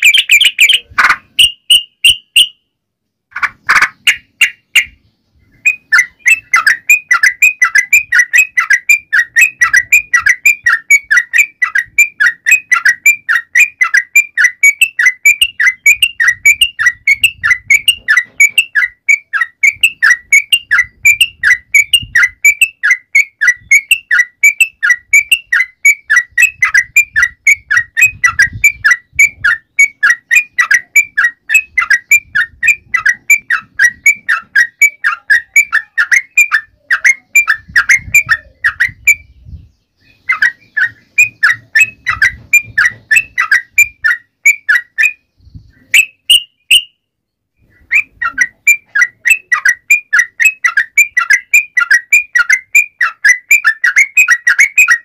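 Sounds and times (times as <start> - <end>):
bird singing whistled notes: 0.0 - 2.8, 3.8 - 55.0.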